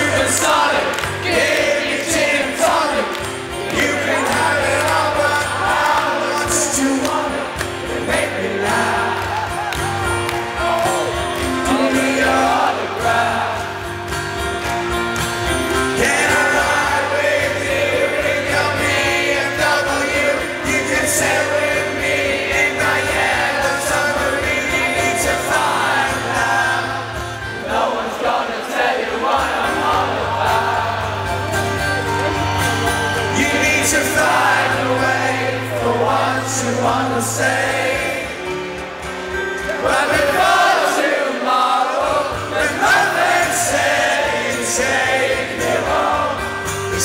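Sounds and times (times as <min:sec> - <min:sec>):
male lead vocal: 0:00.0 - 0:14.0, 0:15.7 - 0:38.8, 0:39.4 - 0:47.0
acoustic guitar: 0:00.0 - 0:47.0
crowd singing along: 0:00.0 - 0:47.0.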